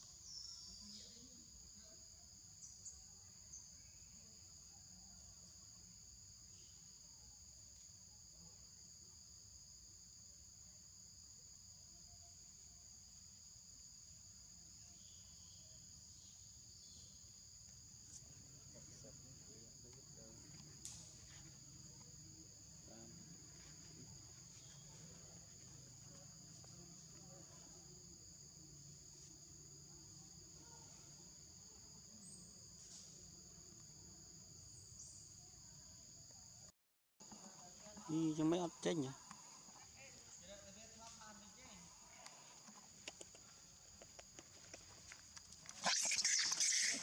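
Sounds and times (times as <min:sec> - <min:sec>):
insect chorus trilling: 0:00.0 - 0:47.0.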